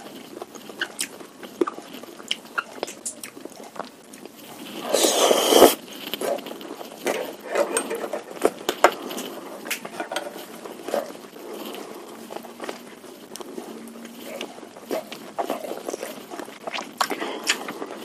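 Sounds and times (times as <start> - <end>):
chewing: 0.0 - 18.0
slurping broth: 0.6 - 18.0.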